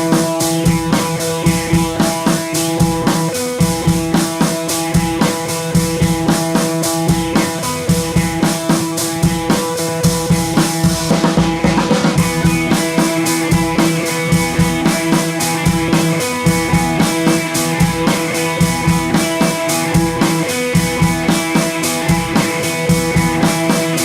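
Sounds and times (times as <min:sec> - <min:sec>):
rock music: 0:00.0 - 0:24.0.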